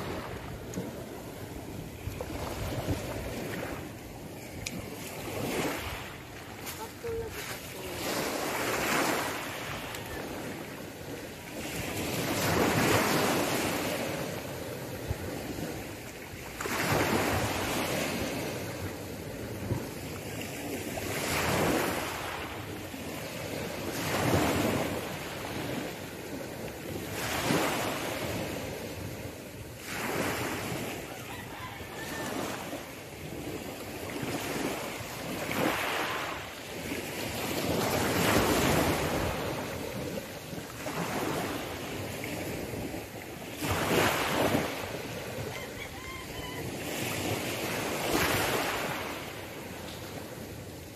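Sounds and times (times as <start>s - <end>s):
waves washing up pebble beach: 0.0s - 31.2s, 32.1s - 45.8s, 46.6s - 50.9s.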